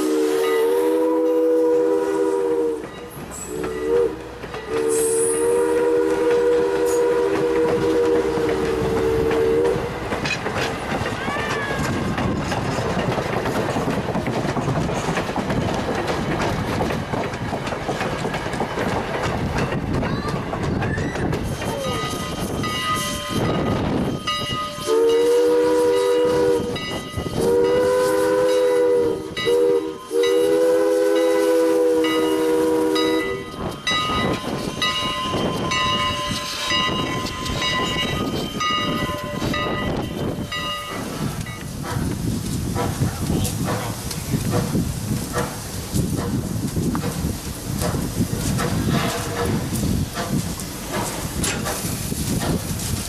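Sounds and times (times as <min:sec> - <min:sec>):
steam locomotive running: 0:00.0 - 0:53.0.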